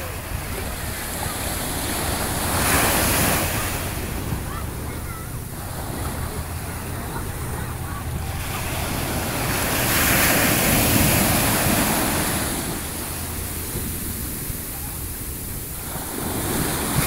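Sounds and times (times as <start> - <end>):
waves crashing on beach: 0.0 - 17.0
wind rumble on microphone: 0.0 - 17.0.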